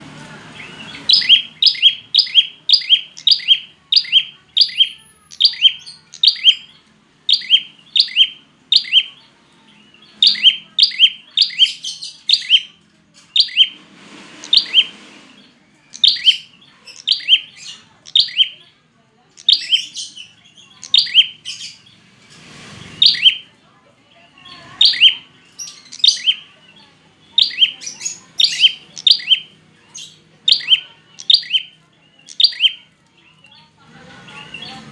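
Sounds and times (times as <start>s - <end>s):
bird sharp chirps: 0.6s - 13.8s, 14.4s - 18.7s, 19.4s - 21.9s, 22.8s - 23.5s, 24.4s - 33.7s.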